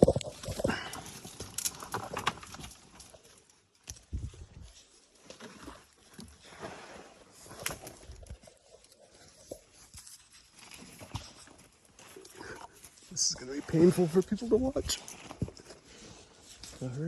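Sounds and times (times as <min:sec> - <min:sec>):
scrapes and knocks of tree climbing: 0:00.0 - 0:17.0.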